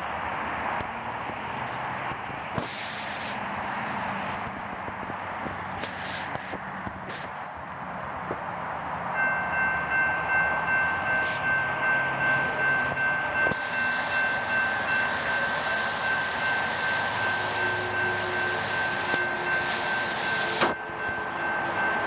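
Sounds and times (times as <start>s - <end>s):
freight train passing: 0.0s - 22.0s
steady high whine: 0.0s - 22.0s.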